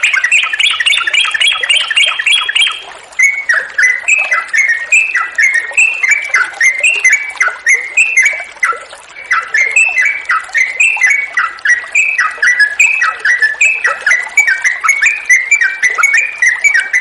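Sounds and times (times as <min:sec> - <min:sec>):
bird singing bubbly phrases: 0:00.0 - 0:17.0
faint running water: 0:00.0 - 0:17.0.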